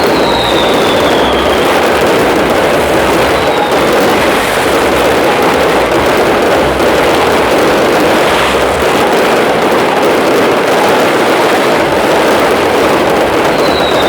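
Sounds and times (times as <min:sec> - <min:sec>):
firework whistle: 0:00.0 - 0:14.0
fireworks bangs and crackling: 0:00.0 - 0:14.0.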